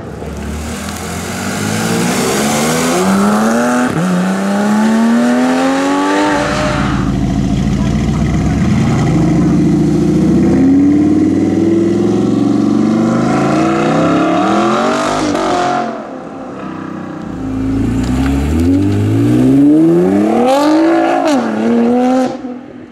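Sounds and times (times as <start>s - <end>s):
sports car engine revving: 0.3s - 15.8s, 17.2s - 22.4s.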